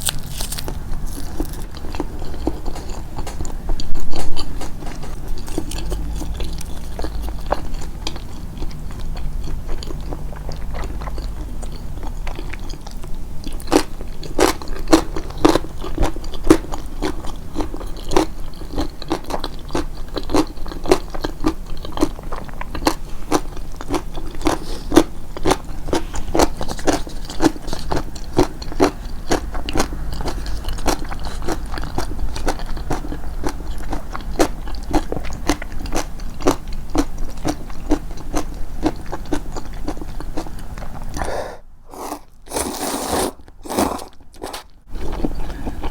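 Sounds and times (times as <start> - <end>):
crunchy chewing close up: 0.0 - 41.3, 41.9 - 45.9.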